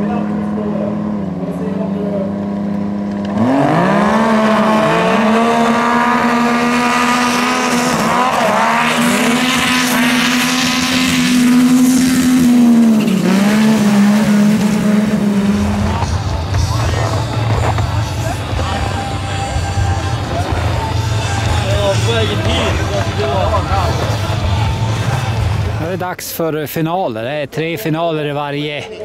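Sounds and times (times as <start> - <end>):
snowmobile engines at full throttle: 0.0 - 26.2.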